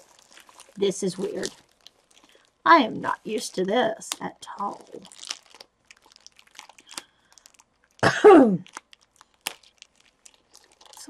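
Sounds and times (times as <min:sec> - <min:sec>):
plastic wrapping crinkling: 0:00.0 - 0:08.0, 0:08.6 - 0:11.0.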